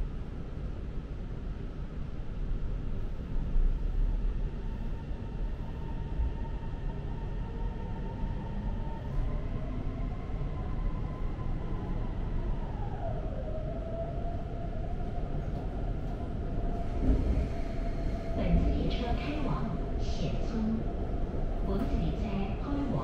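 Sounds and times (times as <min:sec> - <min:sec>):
train rumble in tunnel: 0:00.0 - 0:23.0.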